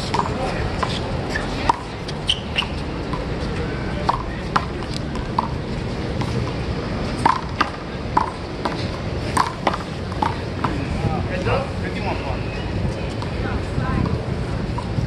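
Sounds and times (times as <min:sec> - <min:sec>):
outdoor background hum: 0:00.0 - 0:15.0.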